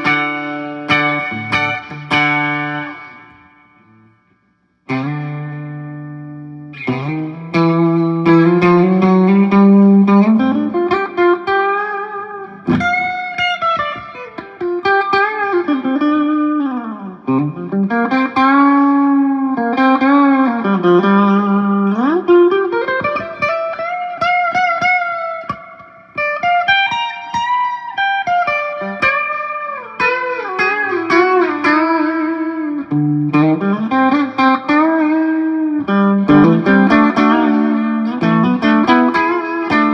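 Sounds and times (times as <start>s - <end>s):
electric guitar lead line: 0.0s - 39.9s.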